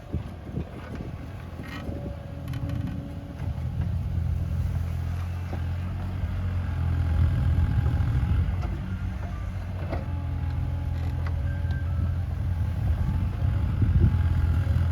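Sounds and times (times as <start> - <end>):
excavator diesel engine: 0.0 - 14.9.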